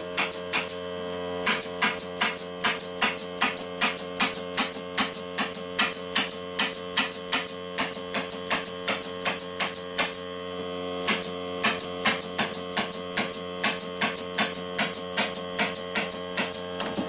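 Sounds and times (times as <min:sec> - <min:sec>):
pneumatic stapler firing: 0:00.0 - 0:00.8, 0:01.4 - 0:10.3, 0:11.0 - 0:17.0
compressor motor humming: 0:00.0 - 0:17.0.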